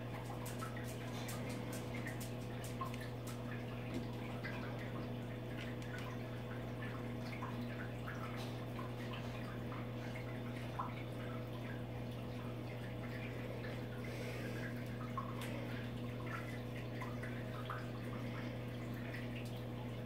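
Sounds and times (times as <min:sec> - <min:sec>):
aquarium water dripping and bubbling: 0:00.0 - 0:20.0.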